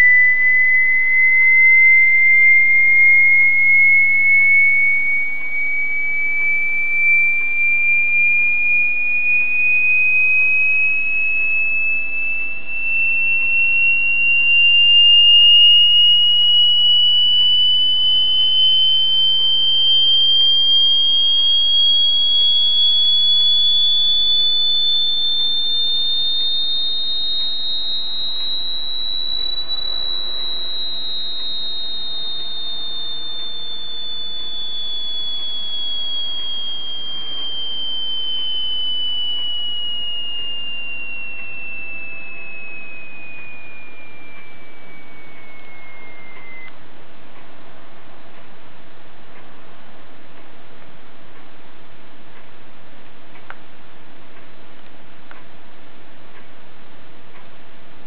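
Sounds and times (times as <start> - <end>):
falling second tone: 0.0 - 46.8
rising sine-wave test tone: 0.0 - 58.0.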